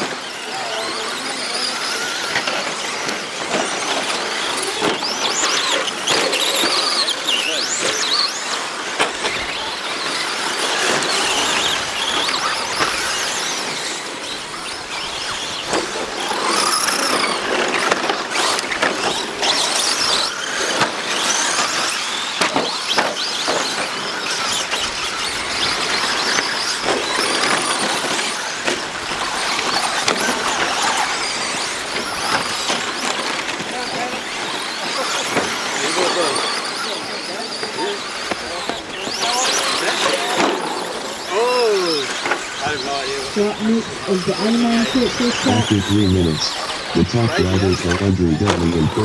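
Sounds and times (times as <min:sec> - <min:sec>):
rc truck motors whining: 0:00.0 - 0:44.0.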